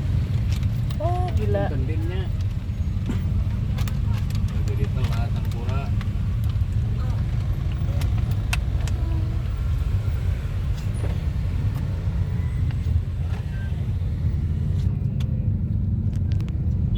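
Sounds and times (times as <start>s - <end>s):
car rumble from inside: 0.0s - 16.9s.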